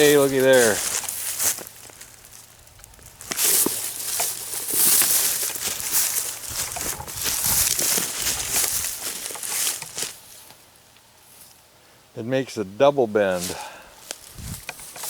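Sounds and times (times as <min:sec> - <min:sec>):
footsteps crunching through leaves: 0:00.0 - 0:10.6, 0:13.3 - 0:15.0.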